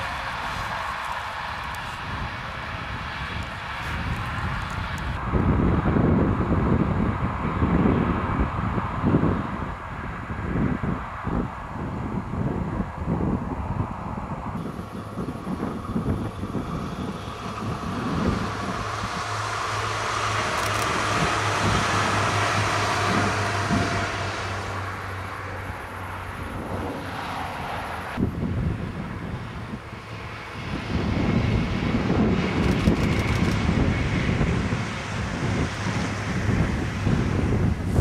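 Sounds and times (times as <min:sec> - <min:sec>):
train rolling noise: 0:00.0 - 0:06.8, 0:13.6 - 0:38.0
diesel train passing: 0:00.0 - 0:38.0.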